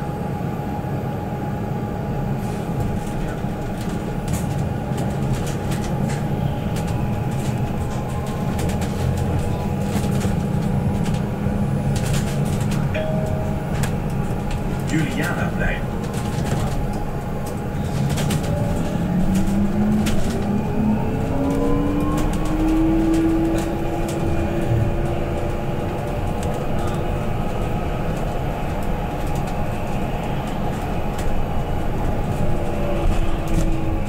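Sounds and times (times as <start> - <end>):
road and tyre rumble: 0.0 - 34.0.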